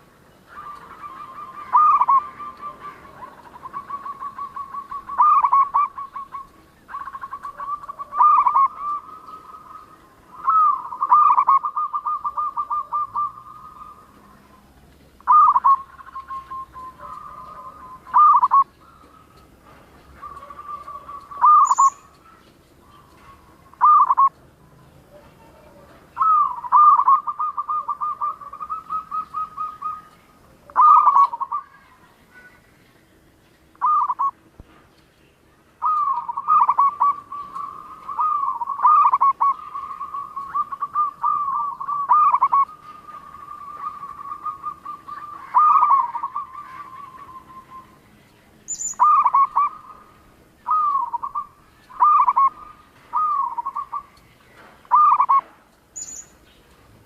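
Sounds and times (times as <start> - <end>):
dove cooing: 0.0 - 32.6, 33.7 - 34.5, 35.8 - 48.2, 48.8 - 55.6
high bird chirp: 0.3 - 24.9, 26.1 - 33.0, 33.7 - 56.8.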